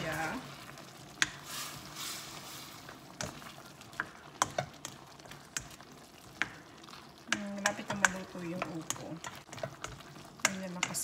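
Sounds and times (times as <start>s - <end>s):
soft sizzling bubble: 0.0s - 11.0s.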